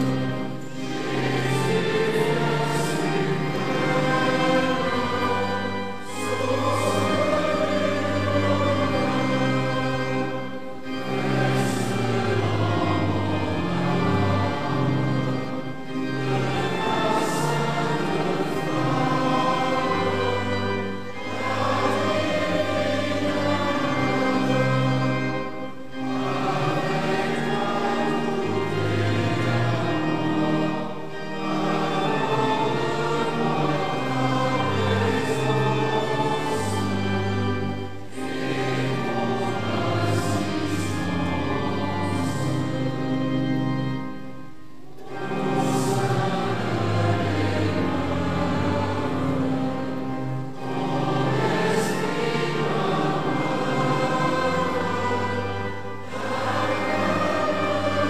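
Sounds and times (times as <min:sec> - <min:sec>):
congregation singing a hymn: 0:00.0 - 0:58.0
pipe organ sustained chords: 0:00.0 - 0:58.0.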